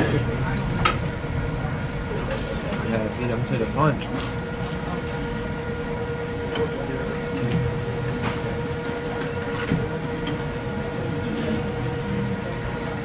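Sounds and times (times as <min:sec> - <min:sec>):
faint background voices: 0:00.0 - 0:13.0
steady hum of fixed tones: 0:00.0 - 0:13.0.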